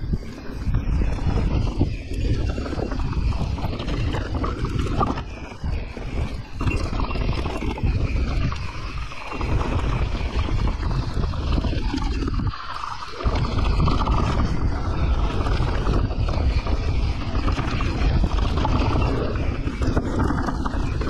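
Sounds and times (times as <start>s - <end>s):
bike rattling over rocks: 0.0s - 21.0s
wind buffeting microphone: 0.0s - 21.0s.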